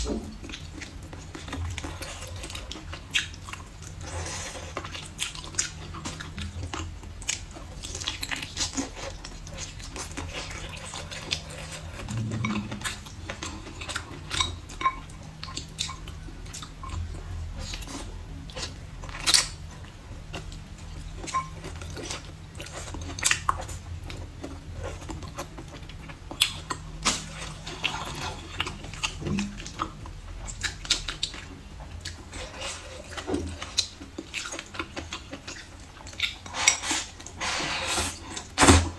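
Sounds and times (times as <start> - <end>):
wet chewing: 0.0 - 38.6.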